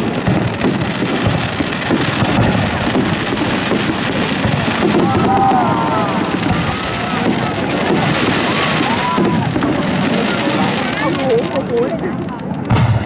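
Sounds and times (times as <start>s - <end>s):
fireworks booming: 0.0s - 13.0s
fireworks crackling and popping: 0.0s - 13.0s.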